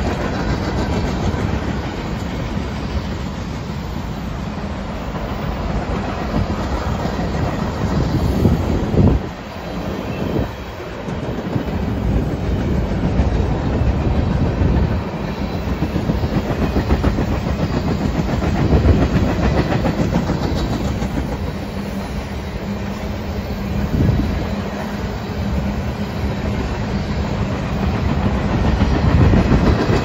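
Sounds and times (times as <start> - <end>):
train rumble: 0.0 - 30.0
train wheels clickety-clack: 0.0 - 30.0.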